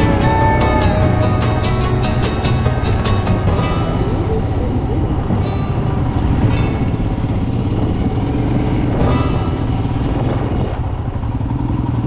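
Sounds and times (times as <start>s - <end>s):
motorcycle engine running at low speed: 0.0s - 12.0s
rush of noise: 0.0s - 12.0s.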